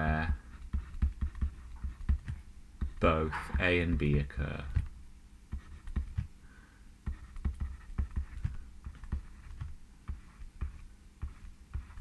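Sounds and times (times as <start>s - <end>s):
pen tapping and scraping on paper: 0.1s - 4.9s, 5.5s - 6.3s, 7.0s - 12.0s.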